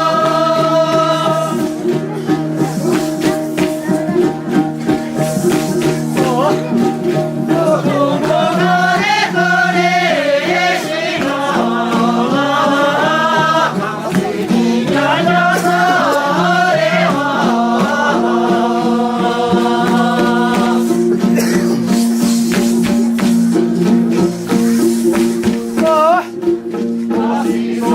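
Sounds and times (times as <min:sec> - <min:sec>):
group singing: 0:00.0 - 0:27.9.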